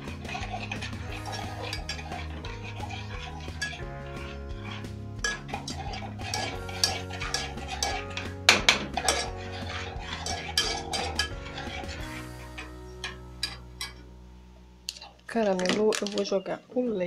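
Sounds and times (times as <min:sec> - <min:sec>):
metal spoon scraping a metal pot: 0:00.0 - 0:14.1.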